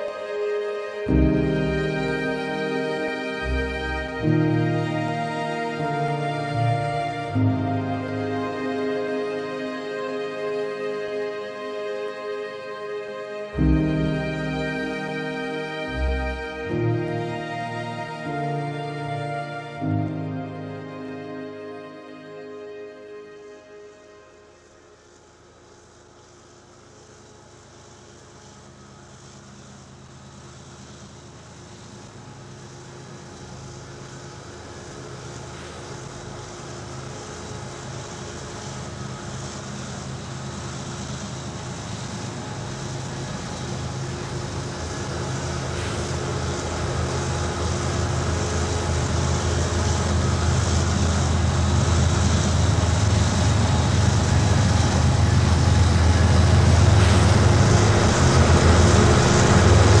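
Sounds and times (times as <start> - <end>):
diesel locomotive engines humming: 0.0 - 60.0
freight train rumble: 0.0 - 60.0.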